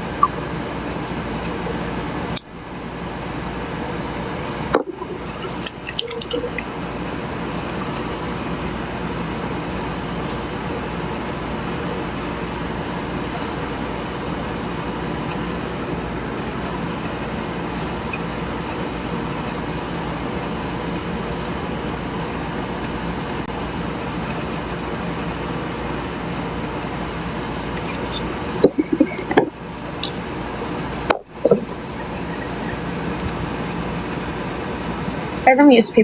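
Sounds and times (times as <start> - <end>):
room hum and hiss: 0.0 - 36.0.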